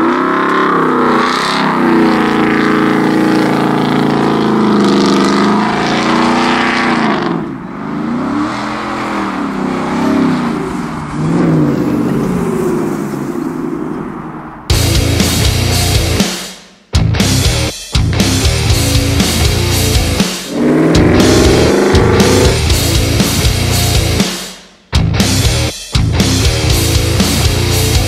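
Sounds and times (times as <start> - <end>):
truck engine accelerating: 0.0 - 16.2, 17.1 - 24.2, 25.0 - 28.0.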